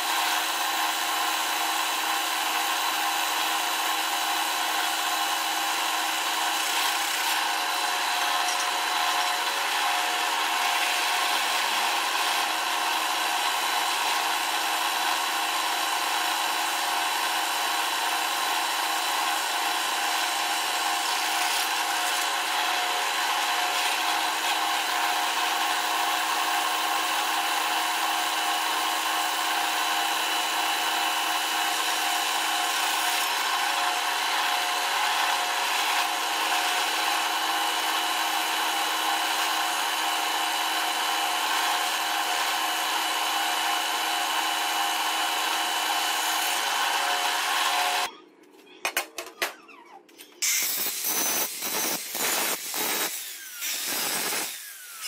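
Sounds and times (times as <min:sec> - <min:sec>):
drill press boring through metal: 0:00.0 - 0:48.1, 0:50.4 - 0:55.0.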